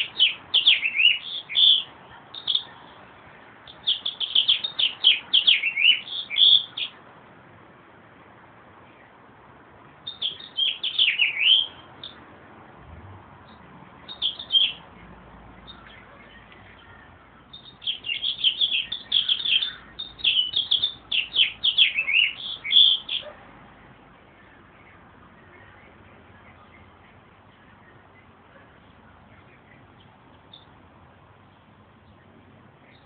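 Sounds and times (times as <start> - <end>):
meadowlark singing: 0.0 - 7.1, 10.0 - 12.3, 13.4 - 33.0.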